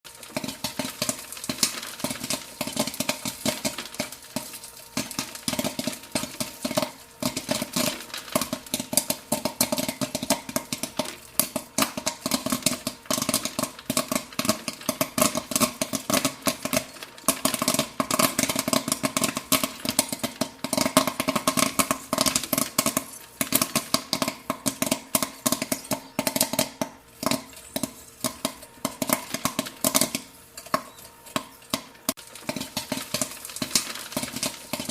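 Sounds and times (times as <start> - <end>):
popcorn popping: 0.0 - 34.9.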